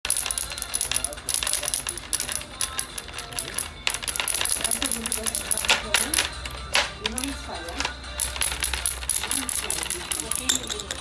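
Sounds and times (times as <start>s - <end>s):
metallic clattering of tools: 0.0s - 11.0s
thin high ringing: 0.1s - 11.0s.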